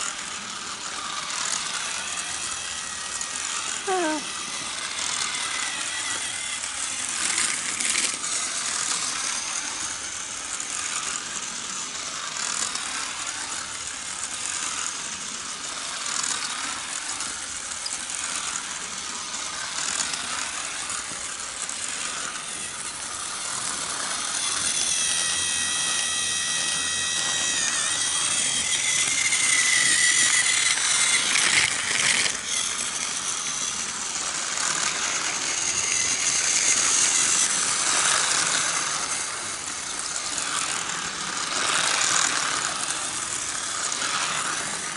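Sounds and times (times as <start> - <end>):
toy cars clattering on plastic tracks: 0.0 - 44.9.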